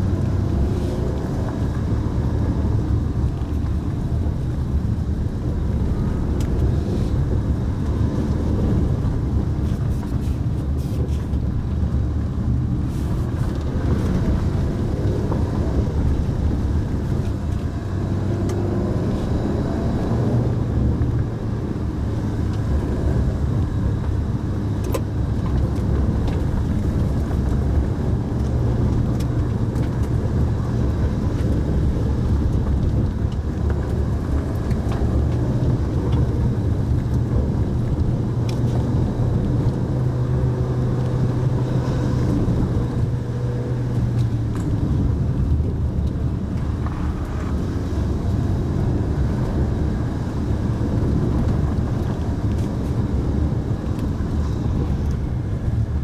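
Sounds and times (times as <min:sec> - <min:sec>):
car engine droning: 0:00.0 - 0:56.0
tyre and road rumble: 0:00.0 - 0:56.0.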